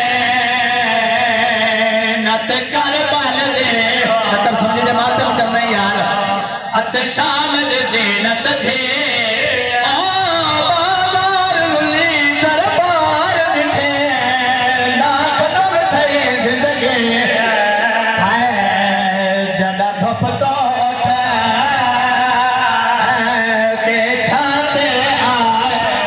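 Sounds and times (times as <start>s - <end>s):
man chanting melodically: 0.0s - 26.0s.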